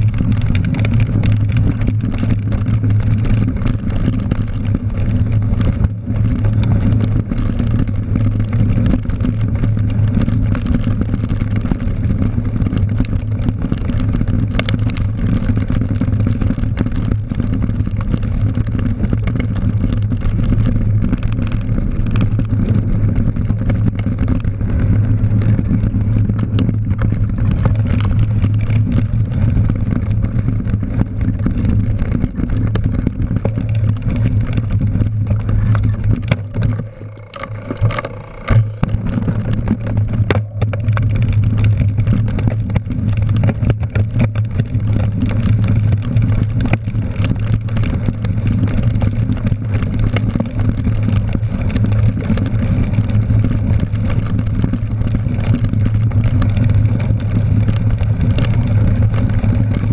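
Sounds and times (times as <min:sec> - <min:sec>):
bike rattles and knocks: 0:00.0 - 0:59.9
bike tyre rumble: 0:00.0 - 0:59.9.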